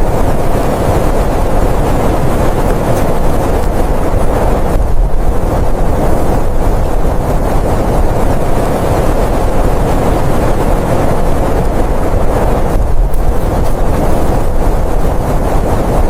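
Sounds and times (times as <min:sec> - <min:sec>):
blizzard wind rushing: 0:00.0 - 0:16.0.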